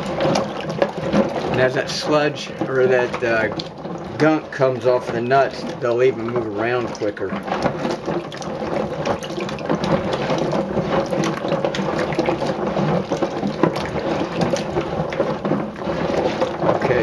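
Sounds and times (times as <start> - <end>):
water sloshing: 0.0 - 17.0.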